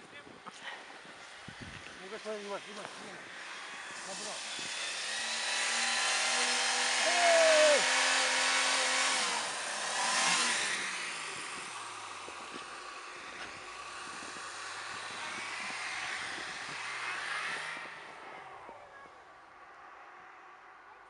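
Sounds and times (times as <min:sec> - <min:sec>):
off-road engine revving: 0:02.0 - 0:19.2.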